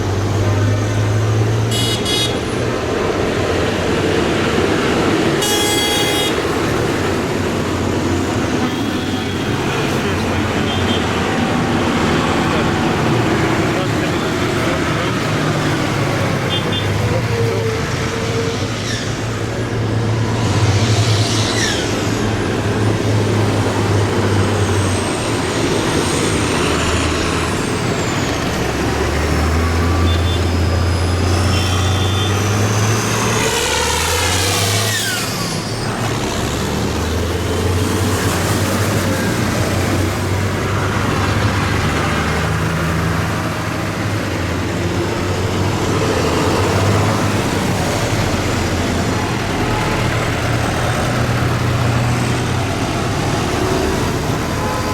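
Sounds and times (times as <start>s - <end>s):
tractors driving past: 0.0s - 54.9s.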